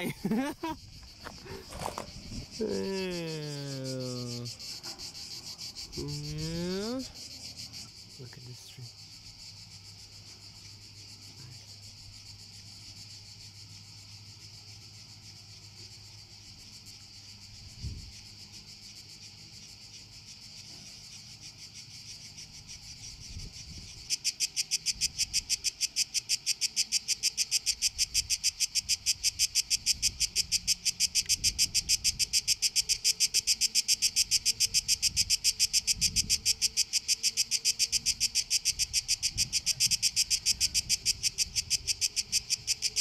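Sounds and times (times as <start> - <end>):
cicada song of rapid pulses: 0.0 - 43.0
distant cicadas hissing: 0.0 - 43.0.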